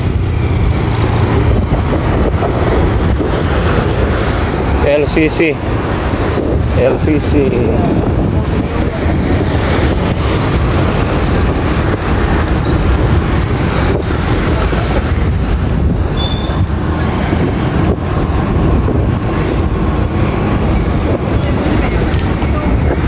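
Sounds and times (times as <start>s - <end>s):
traffic road rumble: 0.0s - 23.0s.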